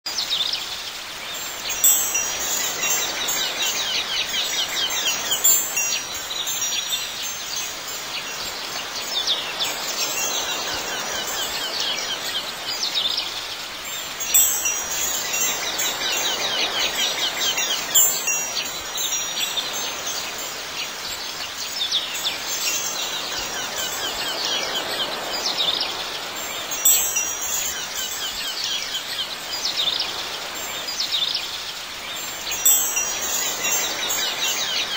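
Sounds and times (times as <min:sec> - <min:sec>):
steady hiss: 0:00.1 - 0:34.9
chimes tinkling: 0:01.2 - 0:31.0, 0:32.1 - 0:34.9.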